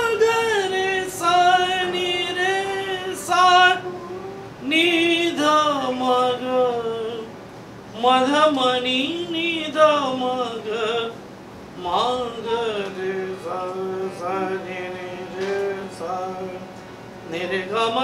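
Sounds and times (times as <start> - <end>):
harmonium drone: 0.0 - 7.4, 9.1 - 18.0
man singing classical melody: 0.0 - 11.2, 11.8 - 18.0.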